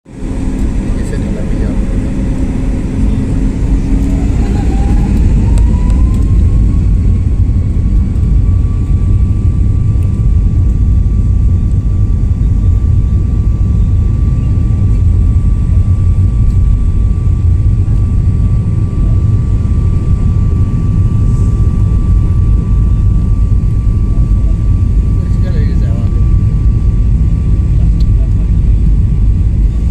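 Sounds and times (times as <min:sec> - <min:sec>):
high jet engine whine: 0:00.1 - 0:29.9
jet engines rumbling: 0:00.1 - 0:29.9.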